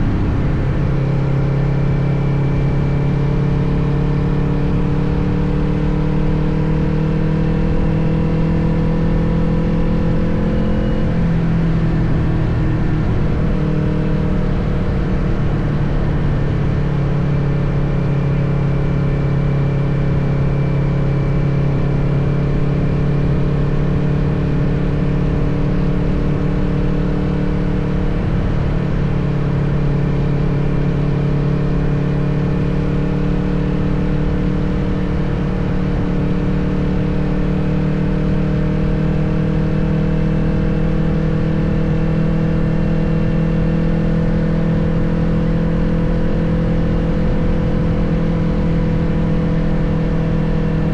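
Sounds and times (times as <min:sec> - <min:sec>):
motorcycle engine running: 0:00.0 - 0:50.9
wind and road noise: 0:00.0 - 0:50.9.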